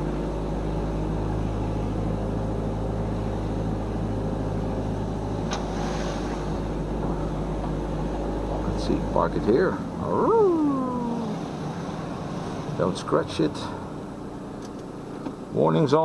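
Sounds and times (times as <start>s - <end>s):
car cabin engine and road hum: 0.0s - 16.0s.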